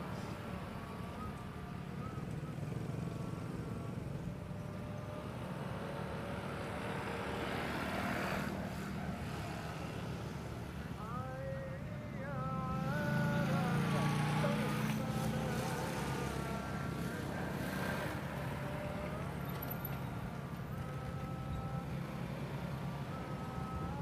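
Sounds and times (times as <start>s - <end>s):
steady rumble of cars: 0.0s - 24.0s
vehicle passing close: 2.7s - 10.8s, 12.8s - 24.0s.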